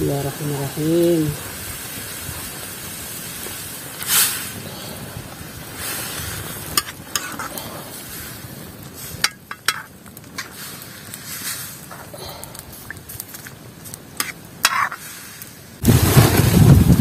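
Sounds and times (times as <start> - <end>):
hiss of shoots in hot water: 0.0 - 17.0.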